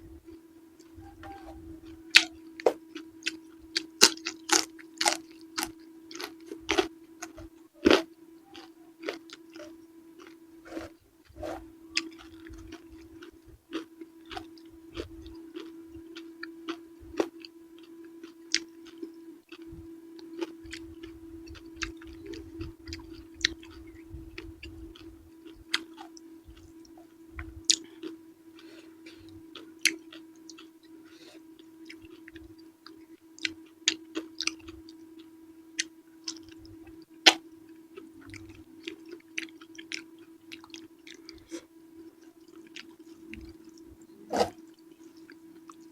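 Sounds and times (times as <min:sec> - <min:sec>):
steady low hum: 0:00.0 - 0:45.9
close chewing mouth sounds: 0:00.8 - 0:45.9.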